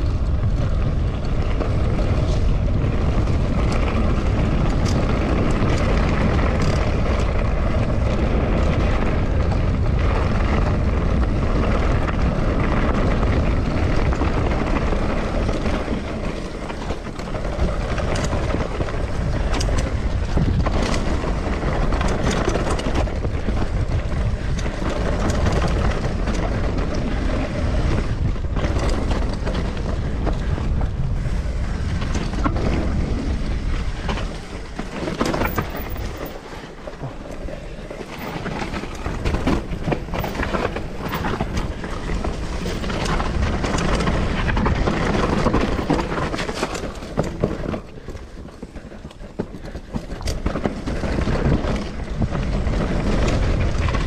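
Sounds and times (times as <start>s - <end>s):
bike knocking and rattling: 0.0s - 54.0s
bike tyres rumbling over dirt: 0.0s - 54.0s
wind buffeting microphone: 0.0s - 54.0s.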